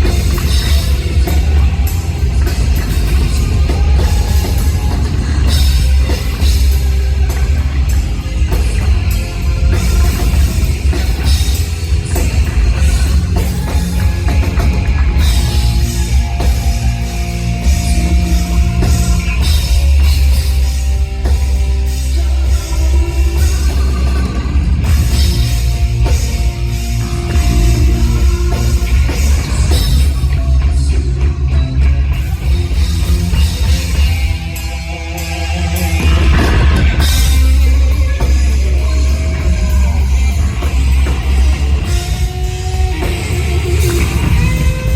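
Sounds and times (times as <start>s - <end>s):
hard rock band playing: 0.0s - 44.9s.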